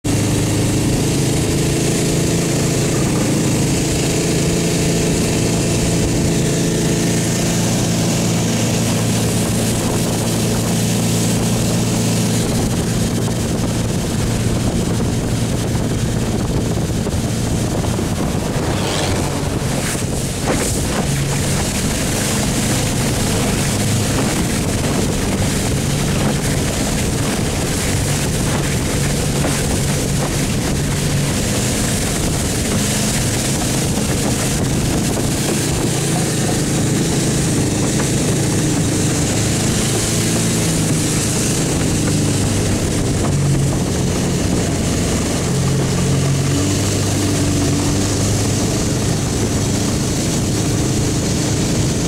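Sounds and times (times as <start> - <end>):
boat engine drone: 0.0 - 52.0
rushing water and spray: 0.0 - 52.0.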